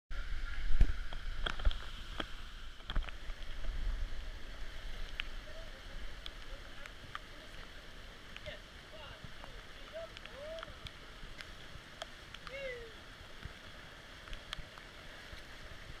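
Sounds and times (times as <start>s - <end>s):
flowing water: 0.1s - 16.0s.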